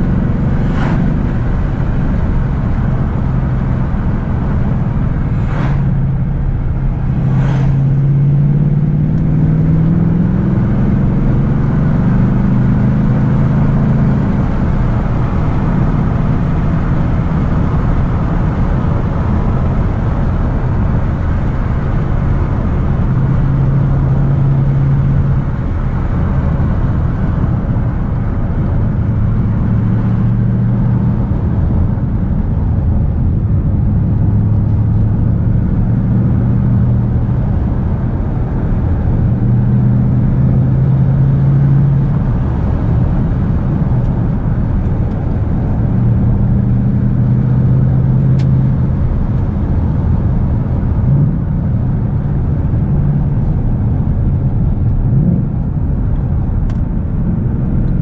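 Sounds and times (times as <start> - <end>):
car engine from inside cabin: 0.0 - 58.0
tyre and road rumble: 0.0 - 58.0.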